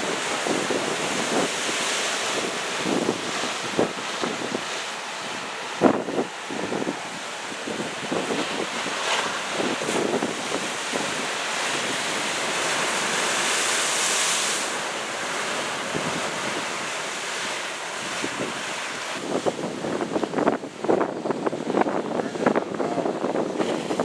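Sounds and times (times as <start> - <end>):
ocean waves breaking: 0.0 - 24.0
wind buffeting microphone: 0.0 - 24.0.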